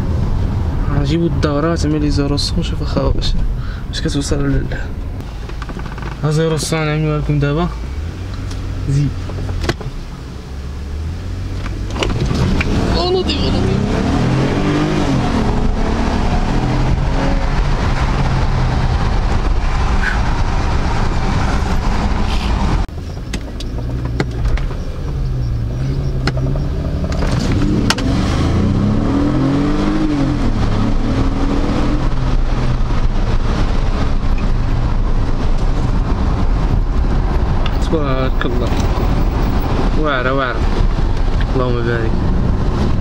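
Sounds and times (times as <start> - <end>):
car engine accelerating: 4.2 - 43.0.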